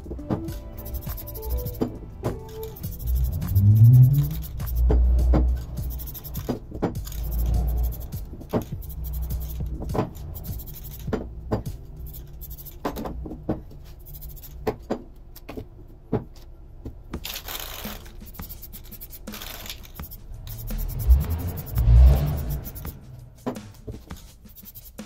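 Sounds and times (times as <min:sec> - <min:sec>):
metal parts clicking and knocking: 0:00.0 - 0:16.5, 0:17.1 - 0:25.0.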